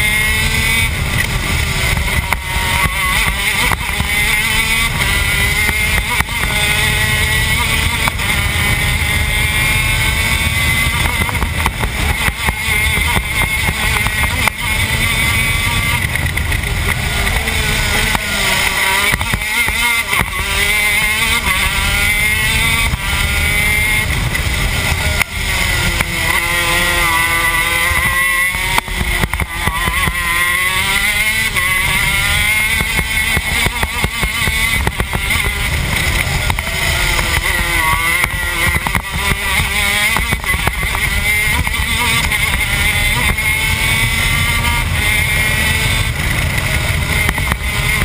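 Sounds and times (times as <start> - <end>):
kart engine revving and shifting: 0.0 - 48.0.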